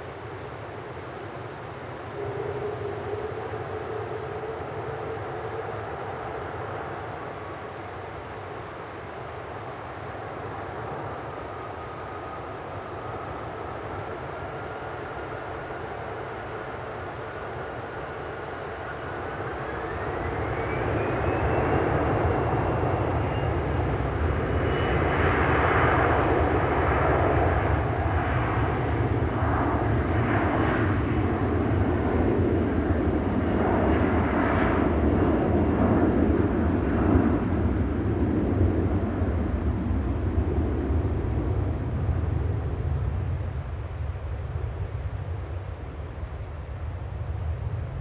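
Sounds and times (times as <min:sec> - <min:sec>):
jet engines whine: 0:00.0 - 0:48.0.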